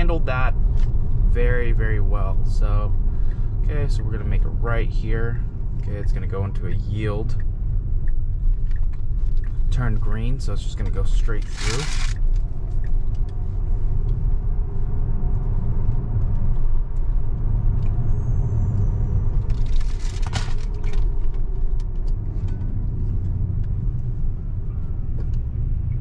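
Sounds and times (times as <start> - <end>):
road and tyre rumble in car: 0.0 - 26.0.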